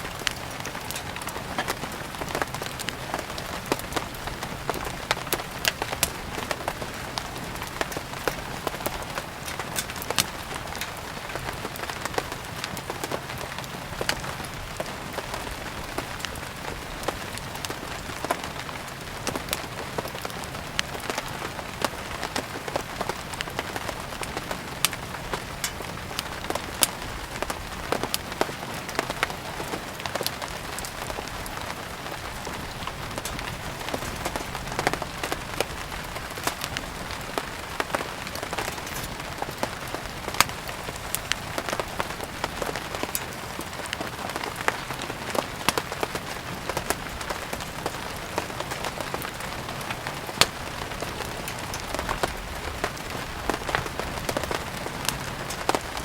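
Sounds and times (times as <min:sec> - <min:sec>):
rain hiss: 0:00.0 - 0:56.0
sharp pops and crackles: 0:00.0 - 0:56.0.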